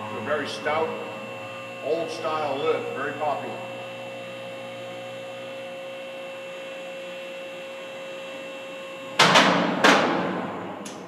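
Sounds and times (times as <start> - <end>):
hydraulic power unit running: 0.0 - 11.0.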